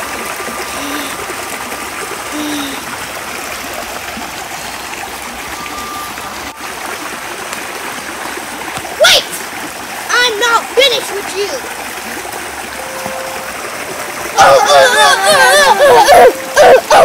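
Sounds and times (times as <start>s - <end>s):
creek trickling over stones: 0.0s - 17.0s.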